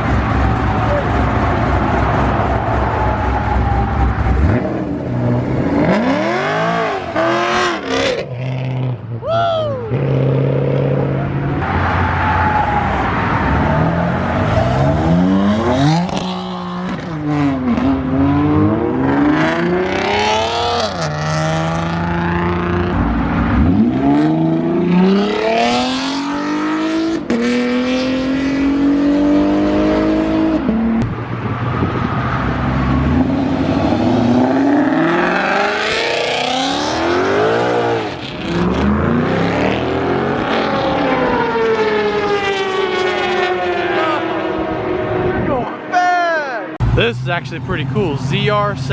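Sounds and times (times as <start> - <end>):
car engines revving and accelerating: 0.0 - 48.9.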